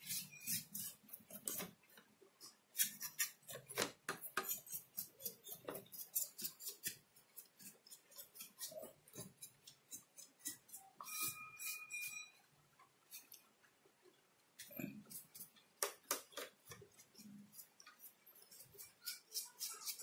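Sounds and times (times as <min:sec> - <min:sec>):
brush scrubbing circuit board: 0:00.0 - 0:01.8, 0:02.8 - 0:12.4, 0:14.6 - 0:20.0.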